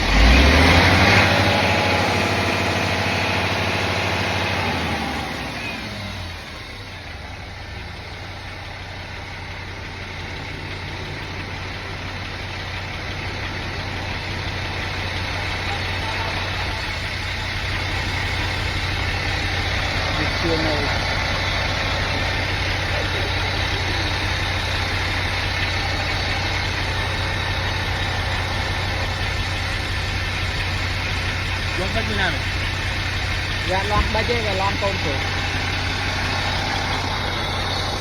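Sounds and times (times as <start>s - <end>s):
engine revving then idling: 0.0s - 38.0s.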